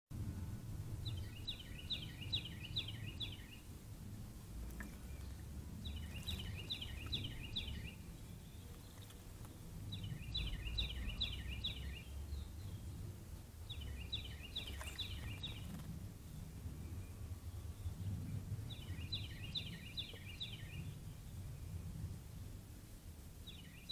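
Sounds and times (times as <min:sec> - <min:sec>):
low background rumble: 0:00.1 - 0:23.9
songbird singing: 0:00.2 - 0:23.9.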